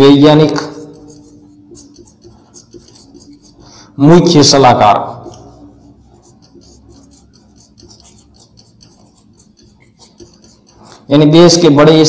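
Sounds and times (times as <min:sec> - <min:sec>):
marker pen squeaking on whiteboard: 0:00.0 - 0:11.6
low room hum: 0:00.0 - 0:12.0.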